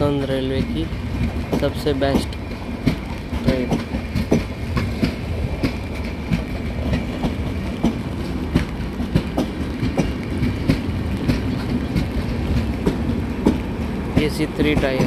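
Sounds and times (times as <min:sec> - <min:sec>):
train coaches rumbling: 0:00.0 - 0:15.0
train wheels clickety-clack: 0:00.0 - 0:15.0.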